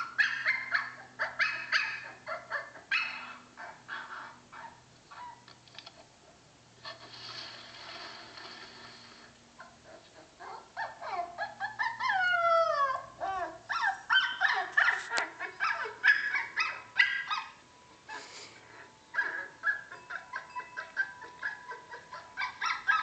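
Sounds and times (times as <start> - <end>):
recorded puppy whining and yelping: 0.0 - 5.5, 9.6 - 23.0.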